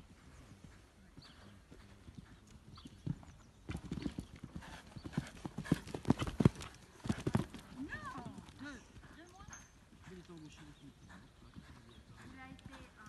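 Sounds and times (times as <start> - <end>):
hoofbeats on sand: 0.0 - 13.0.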